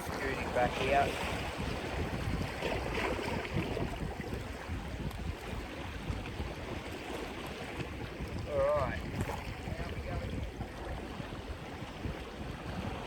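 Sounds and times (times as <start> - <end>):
sea water washing on rocks: 0.0 - 13.0
wind buffeting microphone: 0.0 - 13.0.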